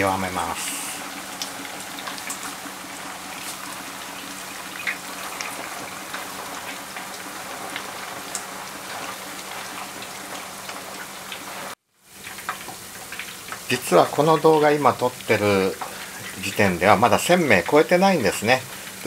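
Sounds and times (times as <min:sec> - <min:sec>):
chicken deep-frying in oil: 0:00.0 - 0:19.0.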